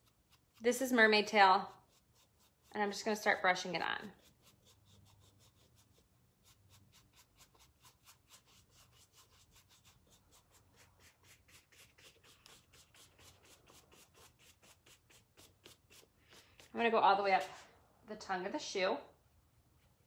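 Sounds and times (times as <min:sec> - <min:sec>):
paintbrush strokes on fabric: 0:00.0 - 0:17.8.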